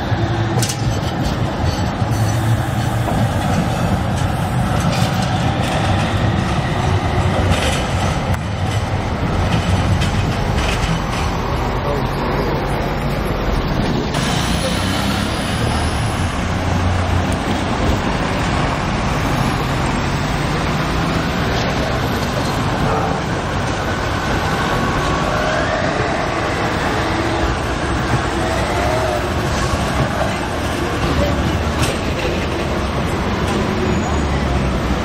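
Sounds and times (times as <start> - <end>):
city traffic noise: 0.0 - 35.0
tram running on street rails: 0.0 - 35.0.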